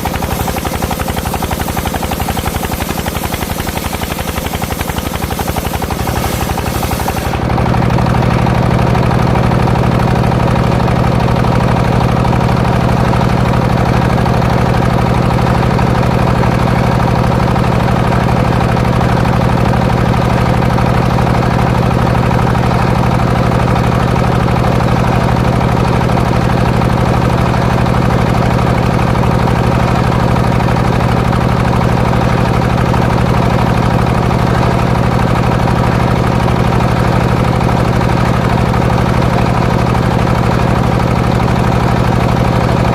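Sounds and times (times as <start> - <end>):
saw engine running steadily: 0.0 - 42.9.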